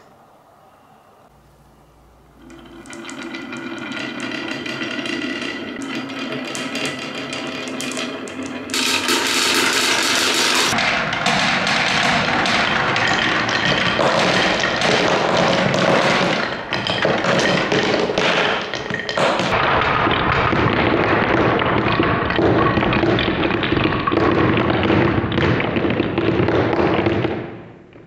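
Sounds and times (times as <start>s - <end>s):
marbles clattering through wooden blocks: 2.4s - 27.4s.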